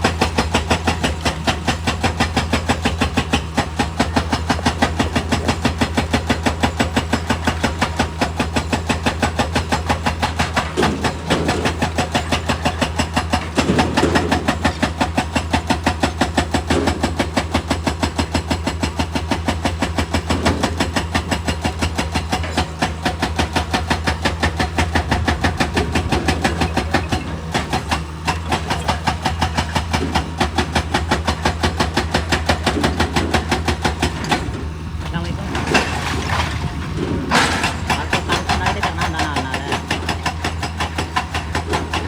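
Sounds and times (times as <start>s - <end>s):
diesel machinery droning: 0.0s - 42.0s.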